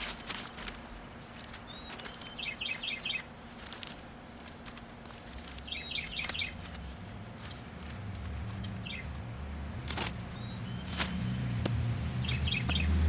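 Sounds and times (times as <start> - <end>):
rustling of potting soil: 0.0 - 12.7
songbird singing: 0.3 - 13.0.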